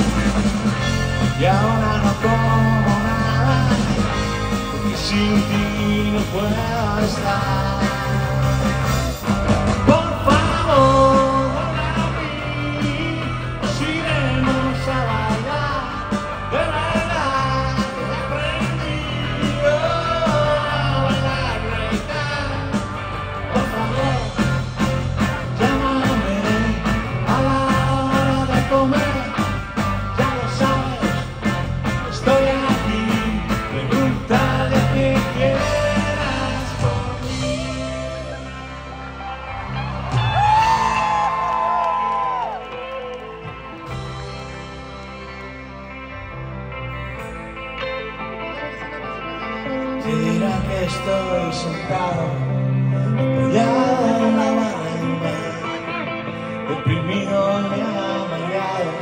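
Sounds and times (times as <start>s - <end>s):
live rock band: 0.0s - 59.0s
person singing: 0.8s - 39.2s, 48.5s - 59.0s.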